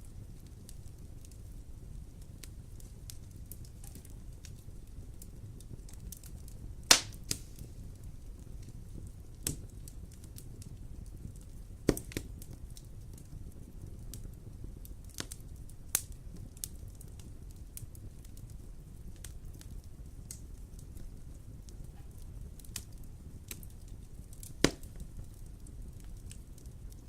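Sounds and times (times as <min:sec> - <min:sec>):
fire crackling ticks: 0:00.0 - 0:27.0
low rumble of fire: 0:00.0 - 0:27.0
sharp pops of fire: 0:00.1 - 0:27.0.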